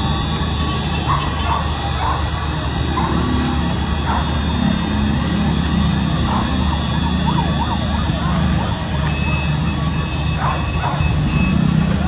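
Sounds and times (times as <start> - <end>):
emergency sirens wailing: 0.0 - 12.0
loud background din: 0.0 - 12.0.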